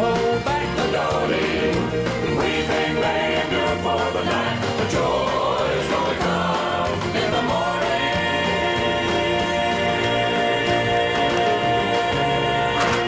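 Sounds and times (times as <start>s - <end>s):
country gospel song with choir: 0.0s - 13.0s.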